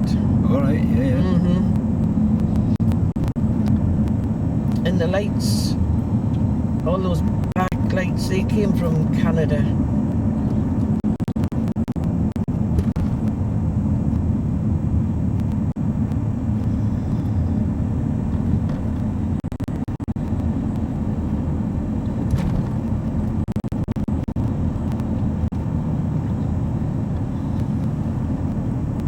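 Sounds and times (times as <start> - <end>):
road noise: 0.0 - 29.0
vehicle engine rumble: 0.0 - 29.0.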